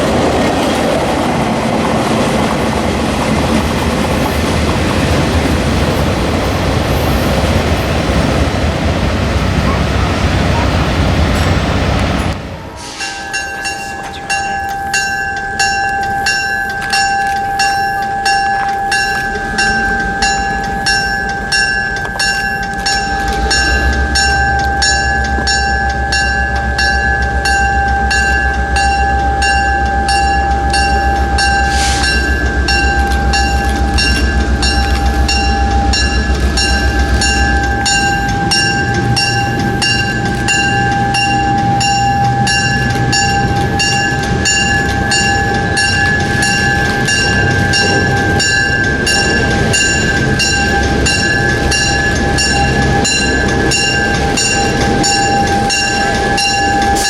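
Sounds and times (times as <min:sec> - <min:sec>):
crossing bell ringing: 0:00.0 - 0:57.0
locomotive engine rumble: 0:00.0 - 0:57.0
steady high tone: 0:05.0 - 0:57.0.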